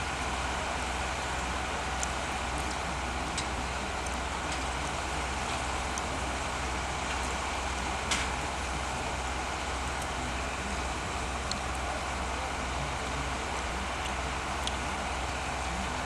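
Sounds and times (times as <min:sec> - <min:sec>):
train engine running: 0:00.0 - 0:16.0.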